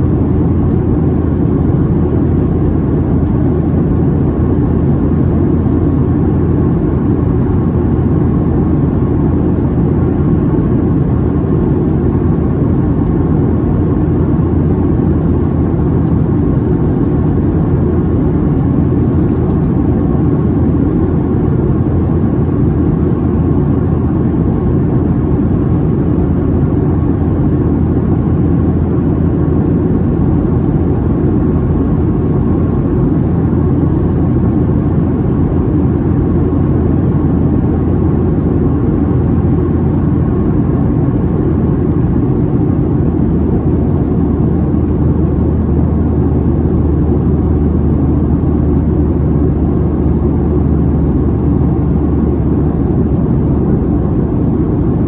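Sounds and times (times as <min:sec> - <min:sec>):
low drone of jet engines: 0:00.0 - 0:55.0.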